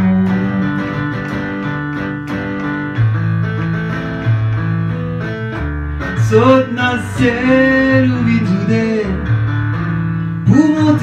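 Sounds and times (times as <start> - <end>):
strummed guitar: 0.0 - 9.9
deep bass notes: 0.0 - 11.0.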